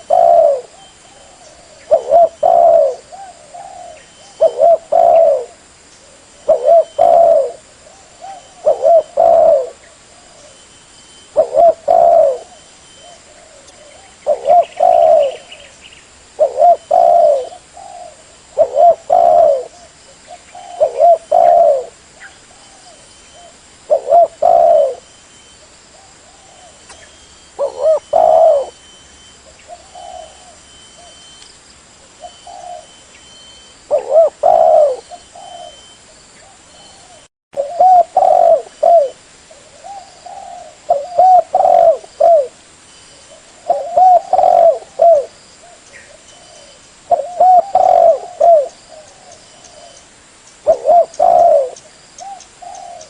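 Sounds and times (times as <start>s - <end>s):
dove cooing: 0.0s - 15.8s, 16.4s - 31.4s, 32.0s - 42.6s, 43.2s - 50.0s, 50.6s - 53.0s.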